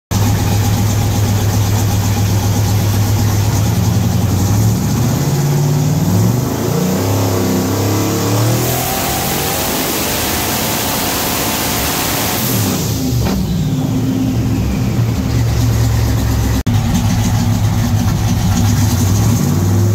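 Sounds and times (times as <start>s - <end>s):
engine idling and revving: 0.1s - 19.9s.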